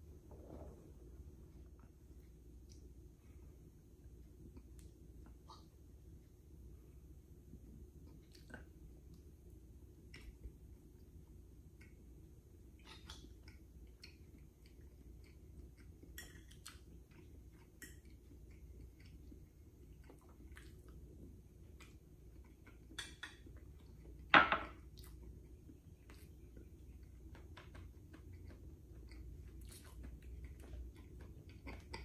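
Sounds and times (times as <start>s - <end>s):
quiet eating sounds: 0.0s - 32.0s.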